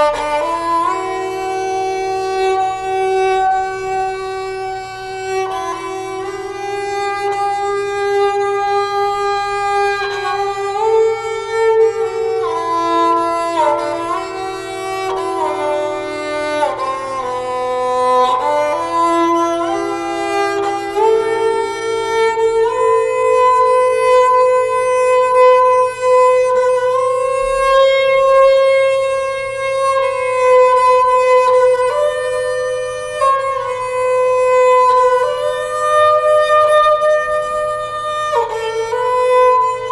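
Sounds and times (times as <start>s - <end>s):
calm instrumental music: 0.0s - 39.9s.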